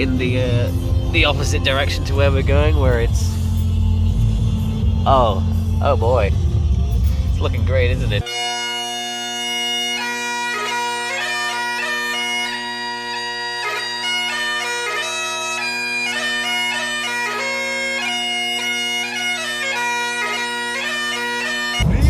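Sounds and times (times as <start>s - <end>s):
bagpipe chanter melody: 0.0s - 22.0s
bagpipe drones: 0.0s - 22.0s.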